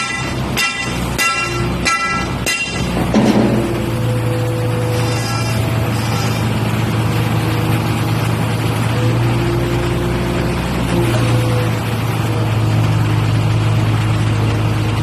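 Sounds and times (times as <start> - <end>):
truck engine running steadily: 0.0 - 15.0.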